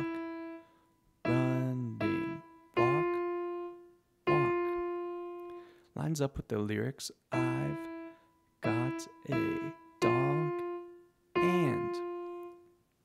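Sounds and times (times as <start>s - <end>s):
slow piano melody: 0.0s - 5.8s, 7.4s - 13.0s.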